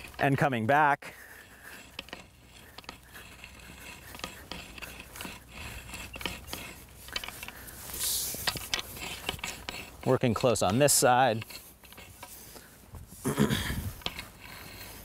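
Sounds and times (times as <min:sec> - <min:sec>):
hand hoe scraping dry soil: 0:00.0 - 0:15.0.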